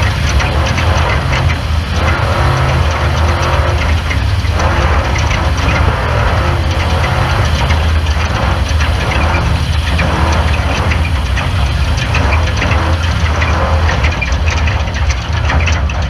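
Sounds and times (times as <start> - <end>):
race car engine running loudly: 0.0 - 16.0
vehicle rattles and knocks: 0.0 - 16.0.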